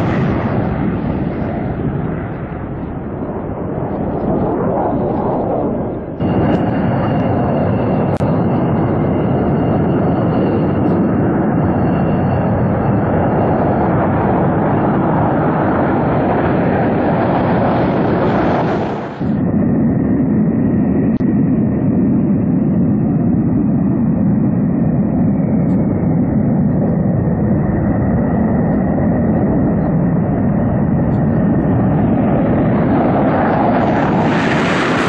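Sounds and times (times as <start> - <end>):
jet engine roar with whine: 0.0 - 35.0.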